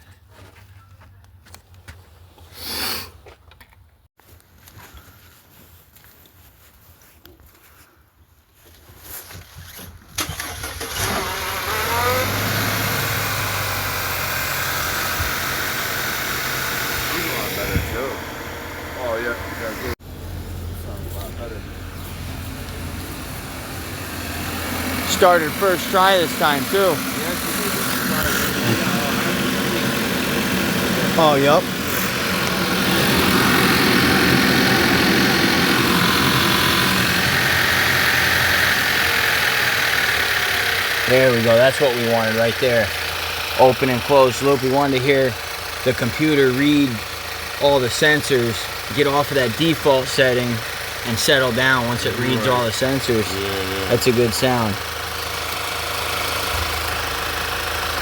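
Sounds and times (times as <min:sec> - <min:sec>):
car engine starting and idling: 0:10.2 - 0:58.0.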